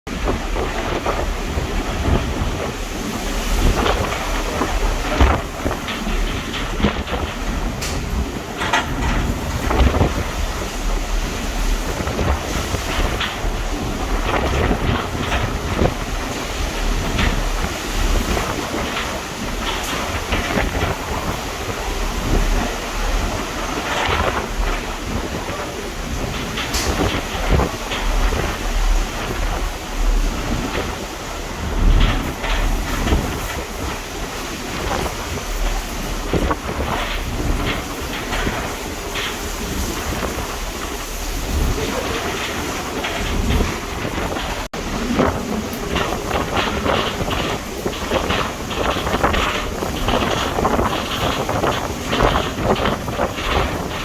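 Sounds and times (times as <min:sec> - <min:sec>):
rough sea rushing: 0:00.0 - 0:54.0
strong wind buffeting microphone: 0:00.1 - 0:54.0.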